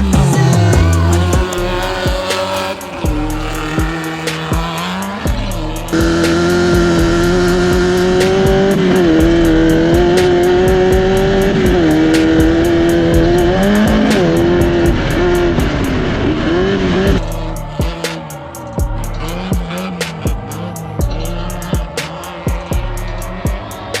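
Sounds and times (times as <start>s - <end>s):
background music: 0.0s - 24.0s
race car engine revving: 0.0s - 24.0s.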